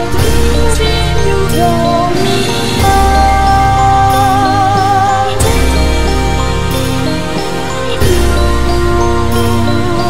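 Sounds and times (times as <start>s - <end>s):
sustained song chords: 0.0s - 10.0s.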